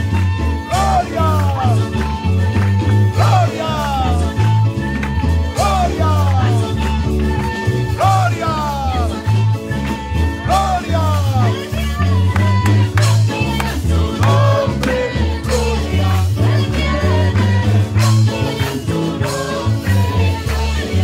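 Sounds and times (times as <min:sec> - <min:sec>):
congregation clapping: 0:00.0 - 0:21.0
woman singing into microphone: 0:00.0 - 0:21.0.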